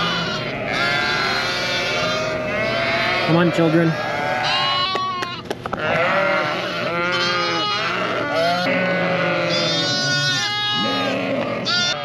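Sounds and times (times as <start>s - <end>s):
lambs bleating: 0.0s - 12.0s.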